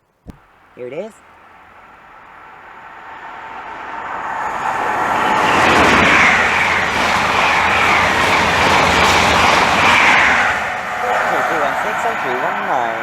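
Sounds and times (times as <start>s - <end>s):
train passing at speed: 0.4s - 13.0s.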